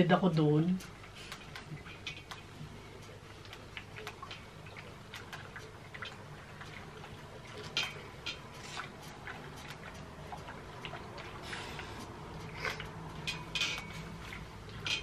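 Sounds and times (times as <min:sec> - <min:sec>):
wet chewing clicks and smacks: 0:00.8 - 0:15.0.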